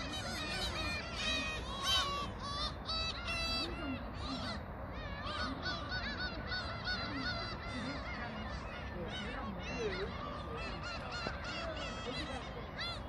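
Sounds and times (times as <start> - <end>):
waterbirds calling: 0.0 - 13.0.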